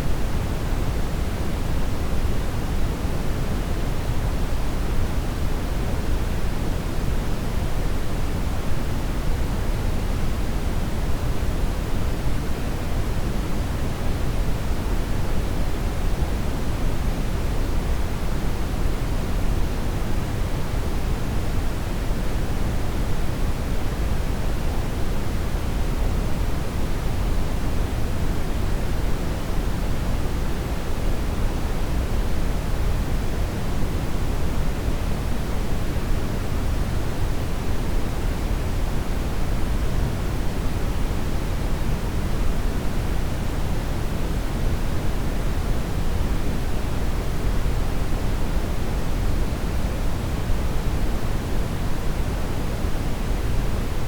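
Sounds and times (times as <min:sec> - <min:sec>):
brown noise hiss: 0:00.0 - 0:54.0.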